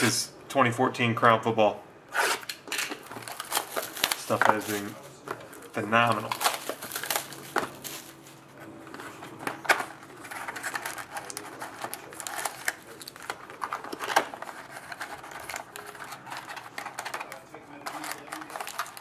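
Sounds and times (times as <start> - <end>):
cardboard box and foil packs rustling: 2.7 - 19.0.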